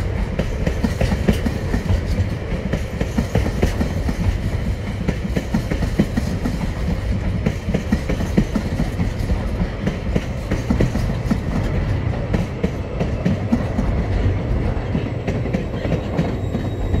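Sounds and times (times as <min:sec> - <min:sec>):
wagons rumbling on rails: 0:00.0 - 0:17.0.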